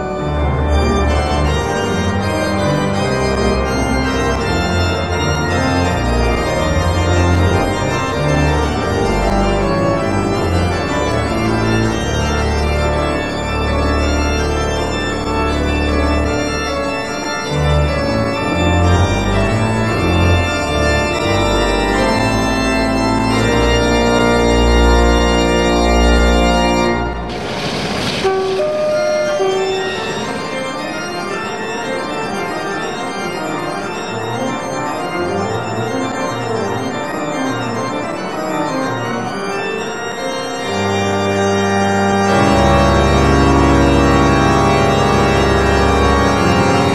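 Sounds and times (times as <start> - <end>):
organ music: 0.0 - 46.9.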